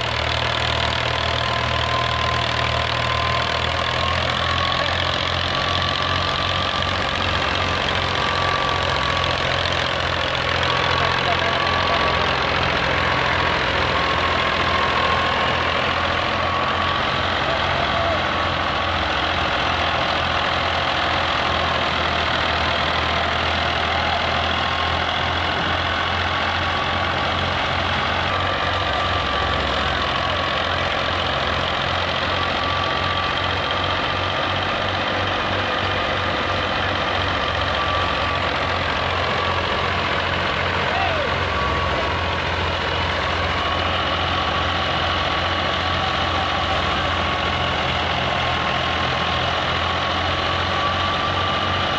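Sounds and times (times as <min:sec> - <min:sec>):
diesel tractor engine running: 0:00.0 - 0:51.9
threshing machine humming: 0:00.0 - 0:51.9.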